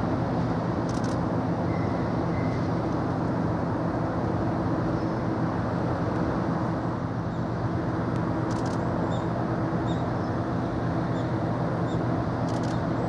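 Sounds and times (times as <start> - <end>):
ship machinery hum: 0.0 - 13.0.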